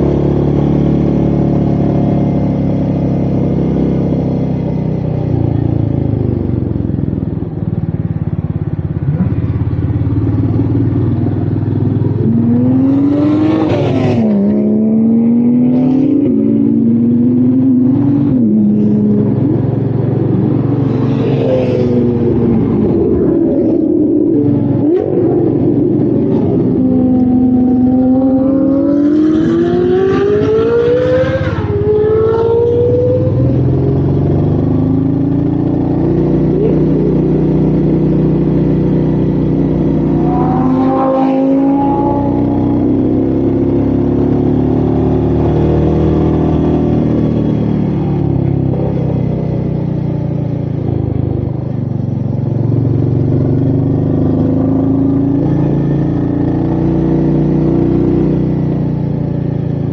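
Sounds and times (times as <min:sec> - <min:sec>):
motorcycle engine revving and shifting: 0:00.0 - 0:59.9.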